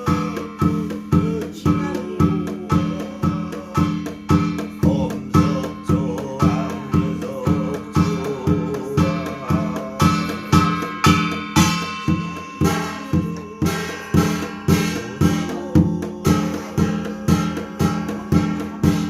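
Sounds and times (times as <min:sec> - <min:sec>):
drum beating steadily: 0:00.0 - 0:19.0.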